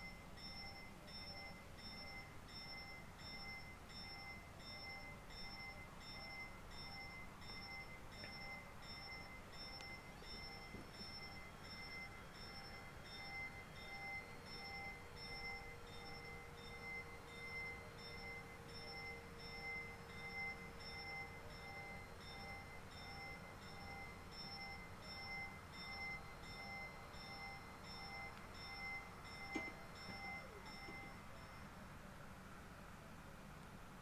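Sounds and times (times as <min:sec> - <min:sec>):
level-crossing warning bell ringing: 0:00.0 - 0:33.1.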